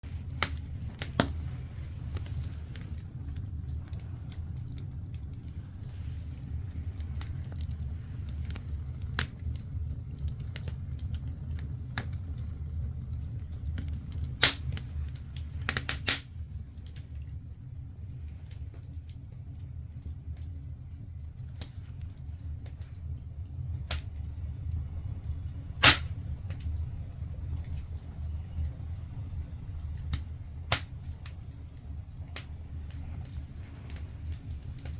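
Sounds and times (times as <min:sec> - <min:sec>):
fire low rumble: 0:00.0 - 0:34.9
firewood crackling and popping: 0:00.0 - 0:34.9.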